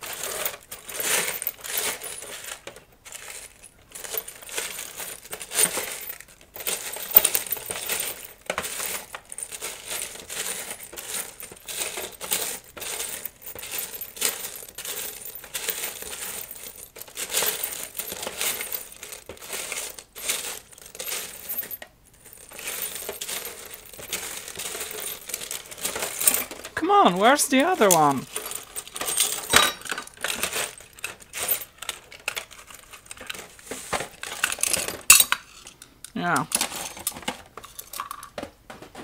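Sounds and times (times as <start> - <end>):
metal screws clinking: 0.0 - 33.4.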